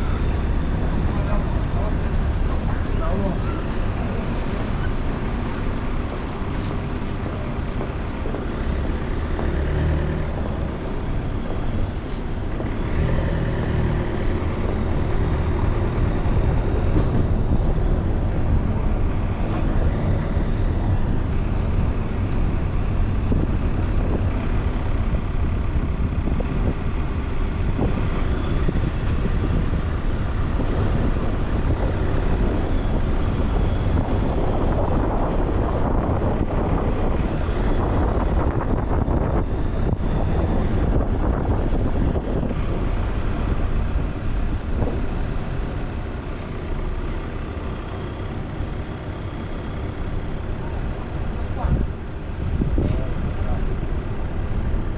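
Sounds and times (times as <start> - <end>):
car engine rumble: 0.0 - 54.9
road noise: 0.0 - 54.9.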